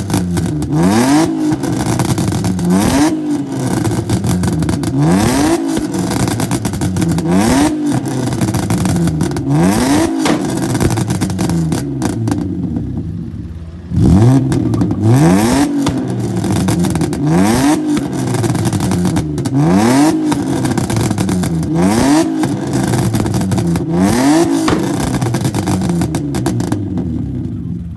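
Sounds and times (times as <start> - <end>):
car engine revving hard: 0.0 - 12.5, 13.9 - 27.2
exhaust crackles and pops: 0.0 - 27.9.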